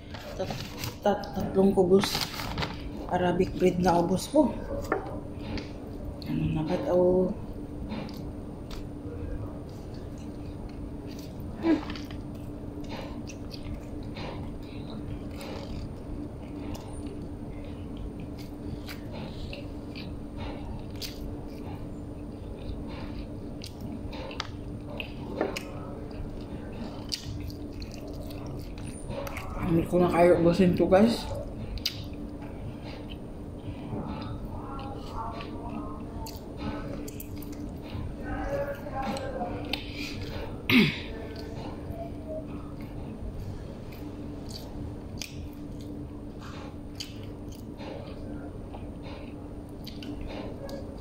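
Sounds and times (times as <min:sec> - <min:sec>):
steady low hum: 0:00.0 - 0:51.0
person chewing sandwich: 0:04.3 - 0:30.2, 0:30.8 - 0:51.0.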